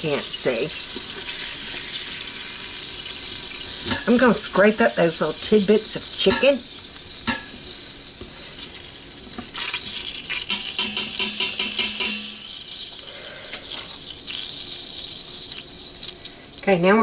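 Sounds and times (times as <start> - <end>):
butter sizzling in a pot: 0.0 - 17.0.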